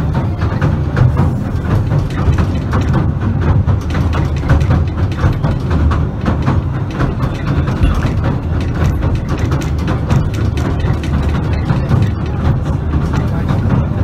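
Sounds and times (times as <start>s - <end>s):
clatter of knocks and rattles: 0.0s - 14.0s
train rumbling: 0.0s - 14.0s.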